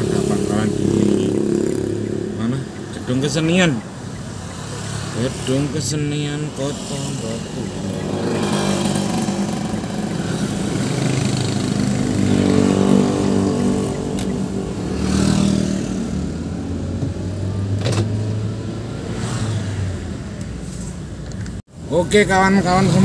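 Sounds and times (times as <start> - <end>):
car engine: 0.0 - 23.0
road noise inside car: 0.0 - 23.0.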